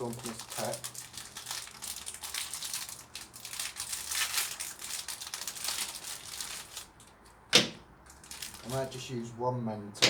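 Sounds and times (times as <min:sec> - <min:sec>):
plastic wrapper crinkling: 0:00.0 - 0:07.2, 0:08.1 - 0:09.0.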